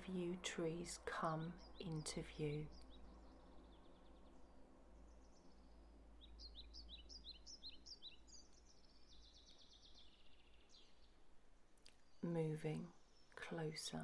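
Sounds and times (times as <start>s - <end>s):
recorded bird chirps and trill: 0.0s - 14.0s.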